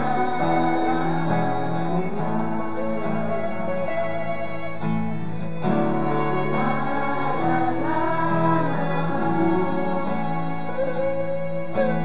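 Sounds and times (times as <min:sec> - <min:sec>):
acoustic ensemble playing gentle piece: 0:00.0 - 0:12.0.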